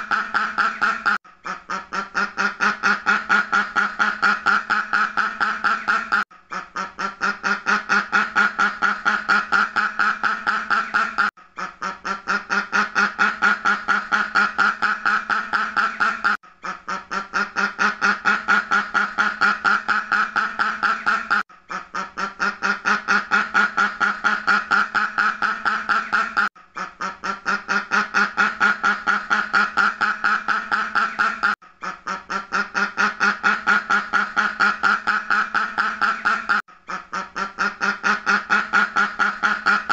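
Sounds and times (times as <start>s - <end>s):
duck quacking rapidly: 0.0s - 39.9s.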